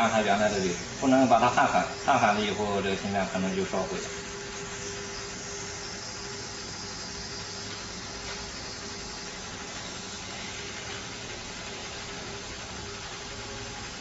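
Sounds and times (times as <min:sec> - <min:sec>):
faint constant hum: 0:00.0 - 0:14.0
hissing hot air: 0:00.0 - 0:14.0.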